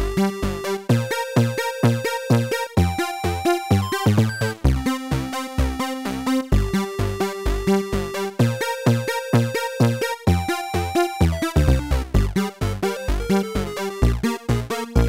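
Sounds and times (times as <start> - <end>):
upbeat synthesizer music: 0.5 - 15.0.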